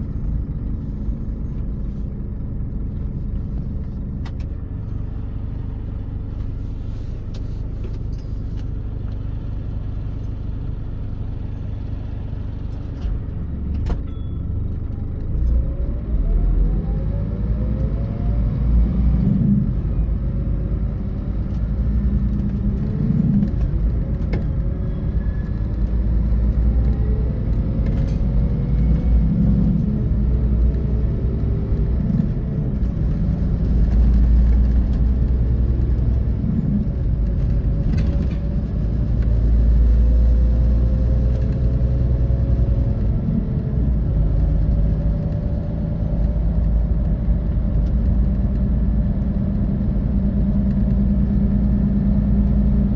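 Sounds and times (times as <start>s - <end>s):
bus diesel engine drone: 0.0s - 52.9s
road rumble: 0.0s - 52.9s.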